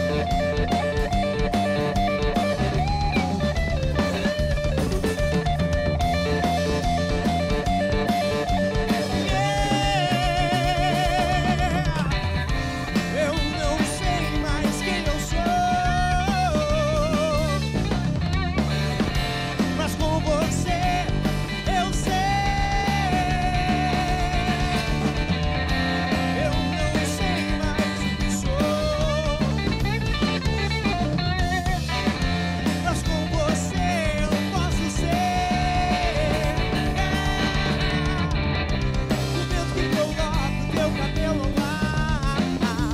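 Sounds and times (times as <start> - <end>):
bass guitar: 0.0 - 42.9
drum kit: 0.0 - 42.9
electric guitar lead: 0.0 - 42.9
live blues-rock band playing: 0.0 - 42.9.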